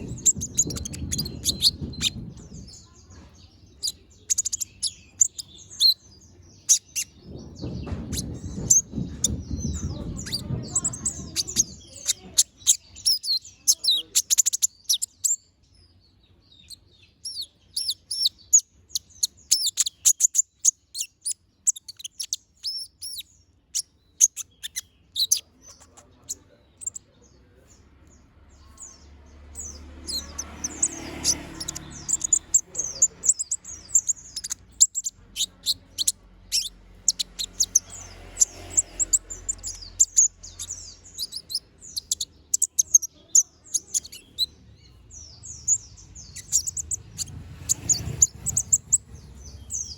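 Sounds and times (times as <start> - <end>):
bird chirping and twittering: 0.0 - 49.9.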